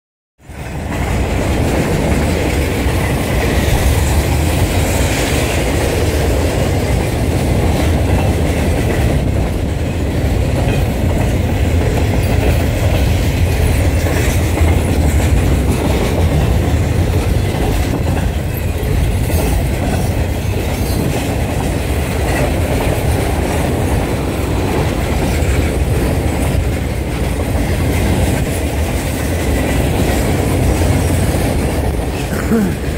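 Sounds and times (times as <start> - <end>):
clickety-clack over rail joints: 0.4 - 32.9
steel wheels rumbling on rails: 0.4 - 32.9.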